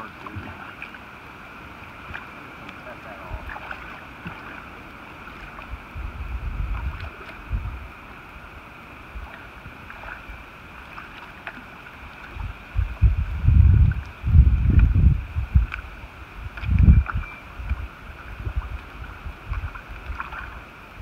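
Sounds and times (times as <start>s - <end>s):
slow river: 0.0s - 21.0s
wind gusts on microphone: 0.0s - 21.0s.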